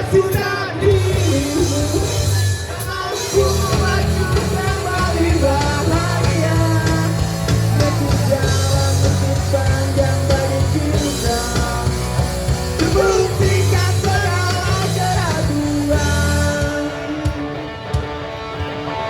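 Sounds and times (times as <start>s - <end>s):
person singing: 0.0s - 18.0s
rock band playing live: 0.0s - 19.0s.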